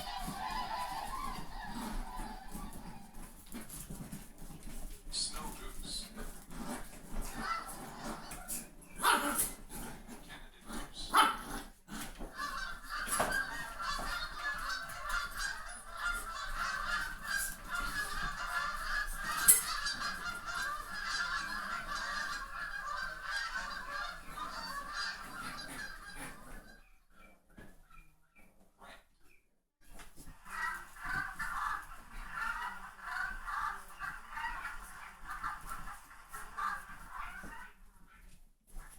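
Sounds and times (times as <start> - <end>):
chorus of high-pitched animal calls: 0.0 - 9.9, 10.7 - 28.1, 30.2 - 37.9.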